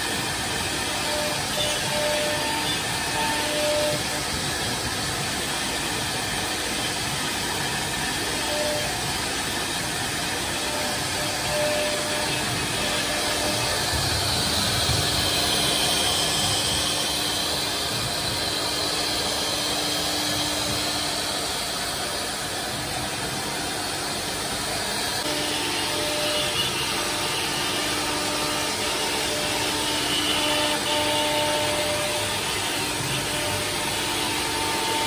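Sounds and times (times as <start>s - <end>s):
router spindle routing wood: 0.0s - 35.0s.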